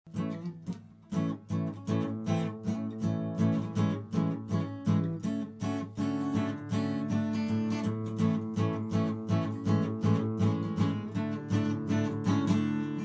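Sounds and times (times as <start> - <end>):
acoustic guitar strumming chords: 0.1 - 13.0.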